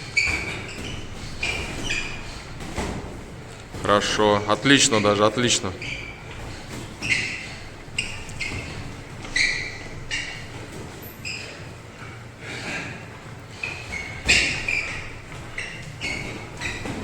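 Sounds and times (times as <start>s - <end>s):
footwork scuffs on gym floor: 0.0s - 17.0s.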